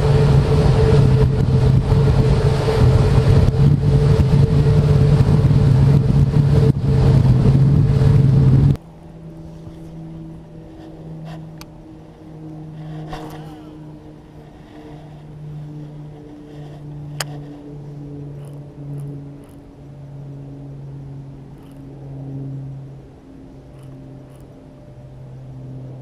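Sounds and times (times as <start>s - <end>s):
boat motor running: 0.0s - 26.0s
wind noise: 0.0s - 26.0s.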